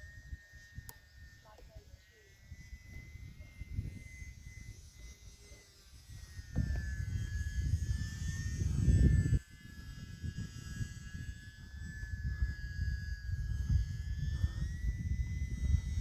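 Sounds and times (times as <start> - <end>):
model plane motor whine: 0.0 - 16.0
wind rumbling on microphone: 0.0 - 16.0.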